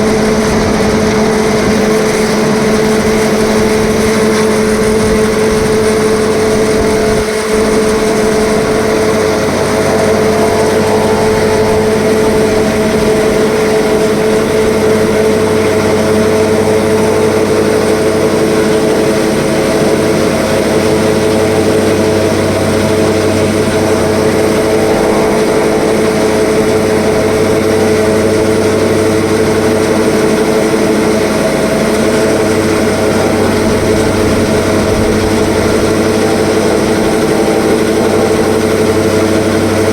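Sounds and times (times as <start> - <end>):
silage packing machine humming: 0.0 - 39.9.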